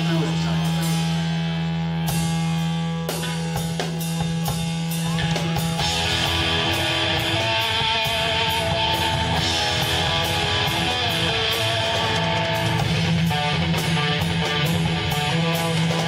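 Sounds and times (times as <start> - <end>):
strummed electric guitar chords: 0.0 - 16.0.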